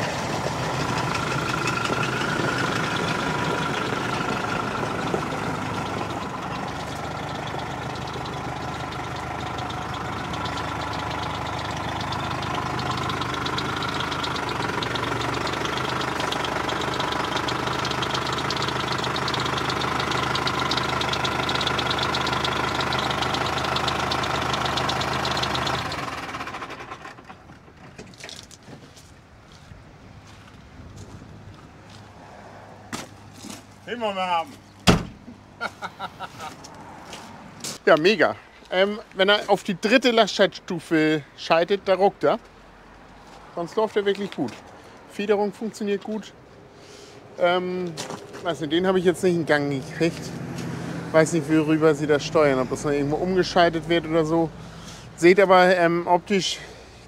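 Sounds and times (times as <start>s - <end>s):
tractor diesel engine running: 0.0s - 32.2s, 33.2s - 57.0s.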